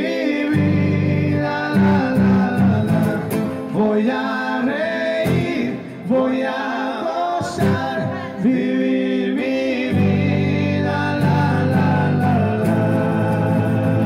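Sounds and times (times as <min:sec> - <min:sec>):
solo voice singing: 0:00.0 - 0:14.0.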